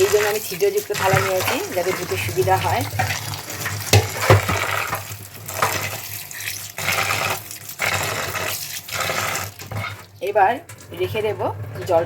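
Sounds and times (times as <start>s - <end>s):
tap water splashing: 0.0s - 11.0s.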